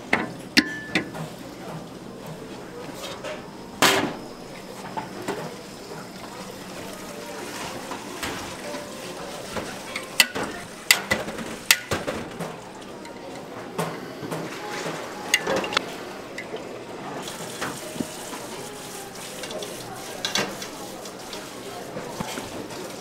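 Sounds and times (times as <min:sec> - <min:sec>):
water running: 0:00.0 - 0:13.8, 0:14.8 - 0:23.0.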